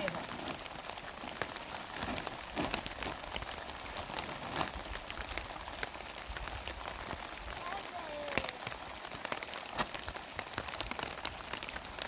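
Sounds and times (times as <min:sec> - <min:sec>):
heavy rain falling: 0:00.0 - 0:12.0
raindrops ticking close by: 0:00.0 - 0:12.0.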